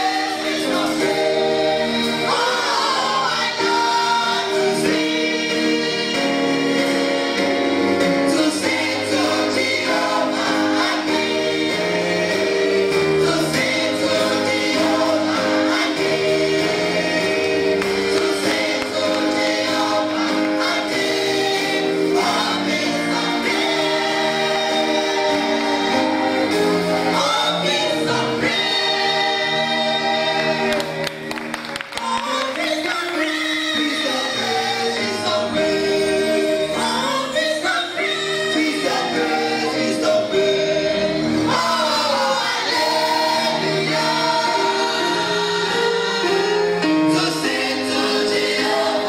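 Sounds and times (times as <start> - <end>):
choir singing gospel in harmony: 0.0 - 49.0.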